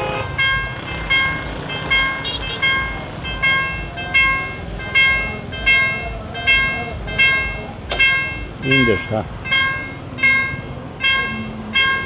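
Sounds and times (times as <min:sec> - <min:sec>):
level crossing bell dinging: 0:00.3 - 0:12.0.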